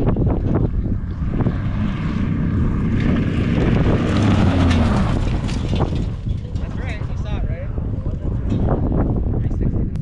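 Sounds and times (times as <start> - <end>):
race car engine droning: 0.0 - 9.5.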